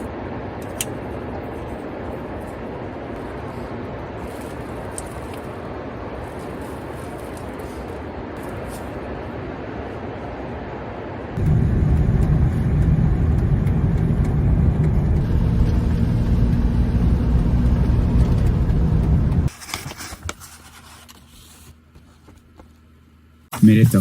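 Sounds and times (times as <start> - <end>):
vehicle road rumble: 0.0 - 19.6.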